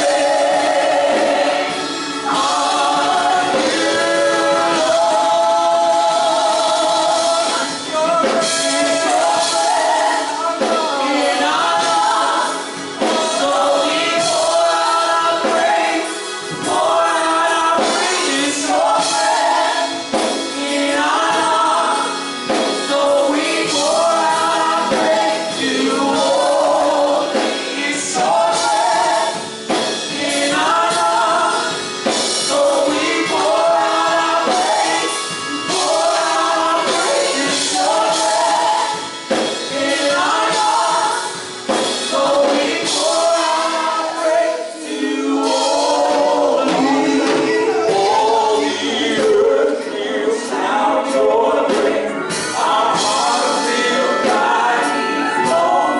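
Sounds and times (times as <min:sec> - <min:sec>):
choir singing: 0:00.0 - 0:55.9
instrumental accompaniment: 0:00.0 - 0:55.9.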